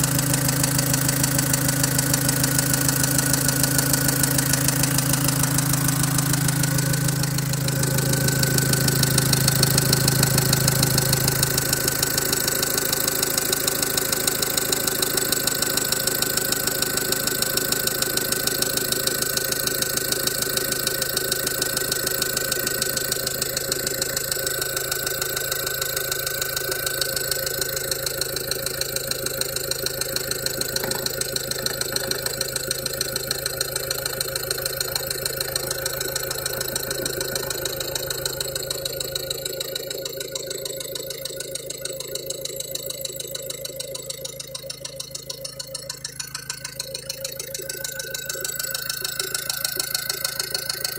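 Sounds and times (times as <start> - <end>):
diesel engine idling with knock: 0.0 - 50.9.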